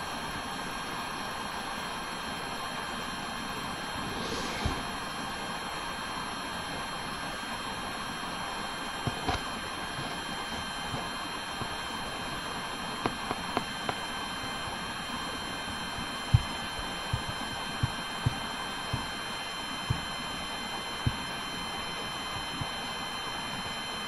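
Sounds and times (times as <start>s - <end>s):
faint electrical whine: 2.7s - 24.0s.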